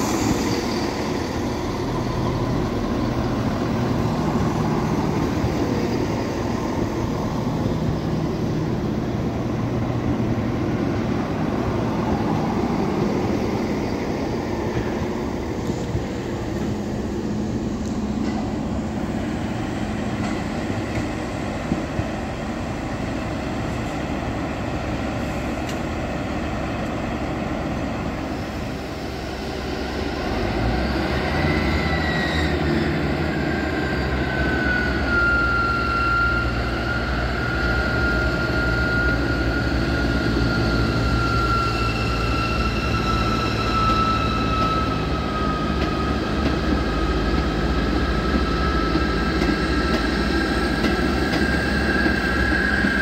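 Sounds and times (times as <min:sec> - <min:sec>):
diesel train engines powering up: 0:00.0 - 0:53.0
train rumbling past: 0:00.0 - 0:53.0.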